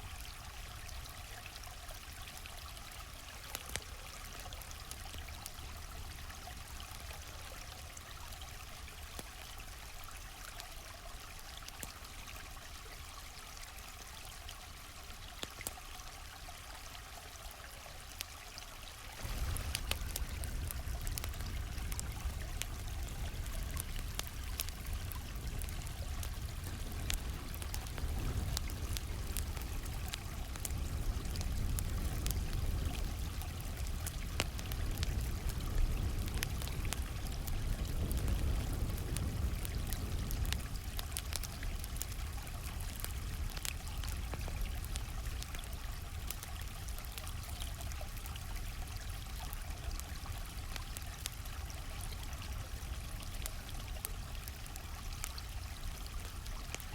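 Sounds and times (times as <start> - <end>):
campfire crackling and popping: 0.0 - 14.0, 15.2 - 16.4, 19.0 - 56.9
stream flowing: 0.0 - 56.9.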